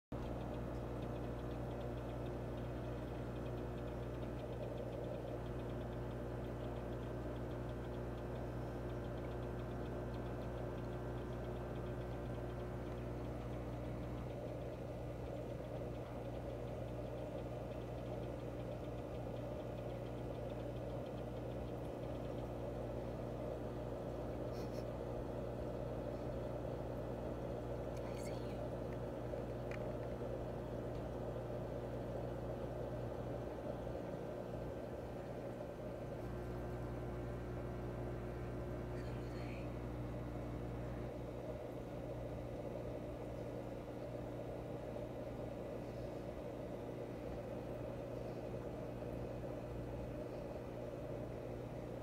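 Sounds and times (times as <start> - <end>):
aquarium pump humming: 0.2 - 52.0.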